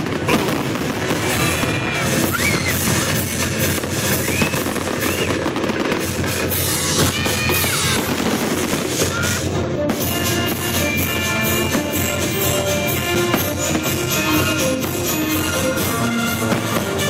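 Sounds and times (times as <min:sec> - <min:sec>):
fireworks crackling and popping: 0:00.0 - 0:17.0
music soundtrack: 0:00.1 - 0:07.1, 0:07.9 - 0:17.0.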